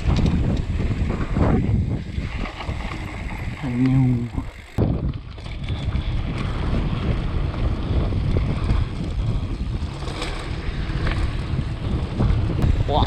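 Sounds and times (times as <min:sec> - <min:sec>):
tyres rumbling on gravel: 0:00.0 - 0:12.7
stones and bike rattling: 0:00.0 - 0:13.0
wind on microphone: 0:00.0 - 0:13.0.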